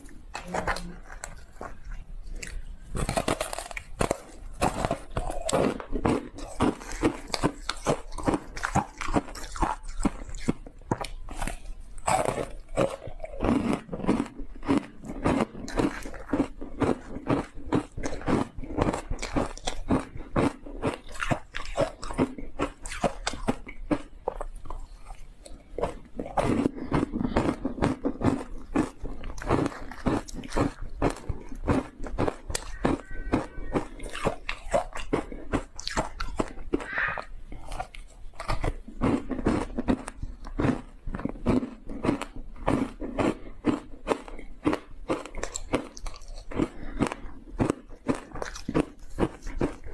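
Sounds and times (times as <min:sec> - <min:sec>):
crunching and chewing ice: 0:00.0 - 0:49.9.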